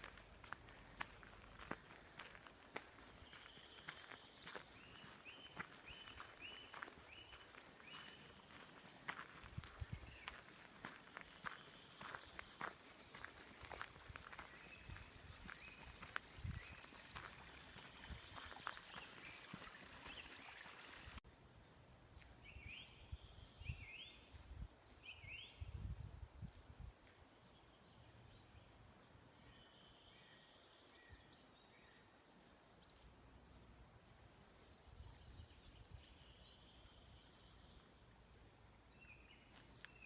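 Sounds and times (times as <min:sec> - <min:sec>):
songbirds singing: 0:00.0 - 0:33.6, 0:34.5 - 0:40.0.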